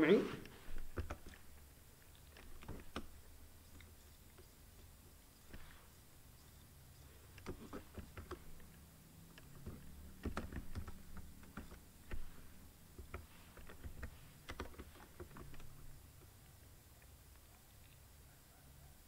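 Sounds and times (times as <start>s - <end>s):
faint low hum: 0.0s - 19.0s
keyboard typing: 0.5s - 17.5s.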